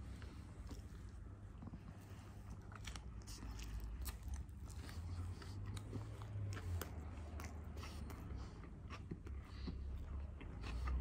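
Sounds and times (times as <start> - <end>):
person chewing sushi: 0.0 - 11.0.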